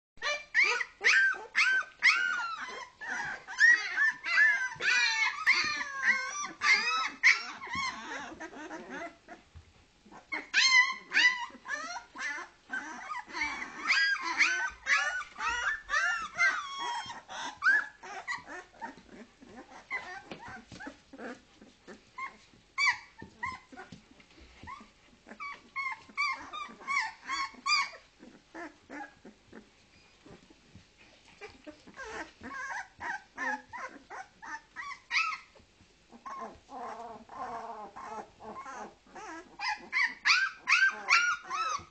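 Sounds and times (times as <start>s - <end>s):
puppies crying: 0.2s - 41.9s.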